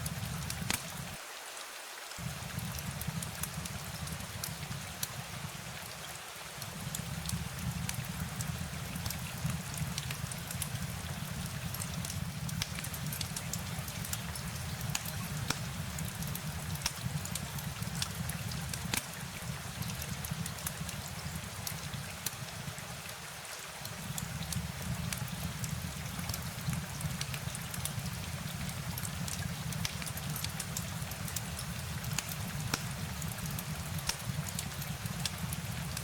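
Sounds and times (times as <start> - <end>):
rain drops ticking: 0.0 - 1.3, 2.0 - 36.0
rain hiss: 0.0 - 36.0.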